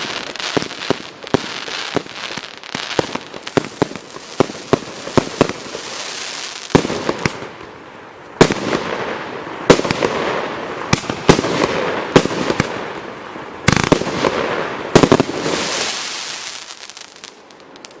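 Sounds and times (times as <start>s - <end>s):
fireworks bangs: 0.0s - 7.7s, 8.4s - 13.0s, 13.6s - 18.0s
fireworks crackling hiss: 0.0s - 18.0s.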